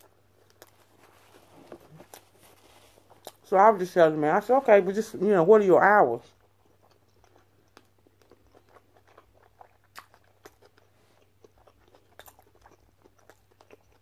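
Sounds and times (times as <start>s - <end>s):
person chewing food: 0.0s - 3.6s, 6.2s - 14.0s.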